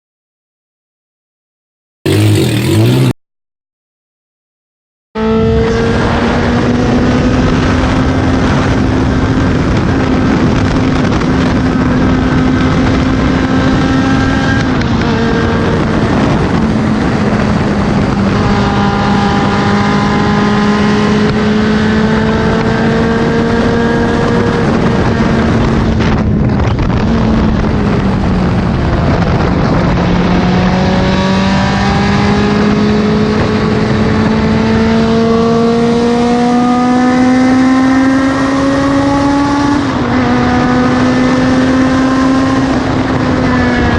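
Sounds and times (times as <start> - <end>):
car engine at high revs: 2.1 - 3.1, 5.2 - 43.9
wind and road noise: 2.1 - 3.2, 5.2 - 43.9.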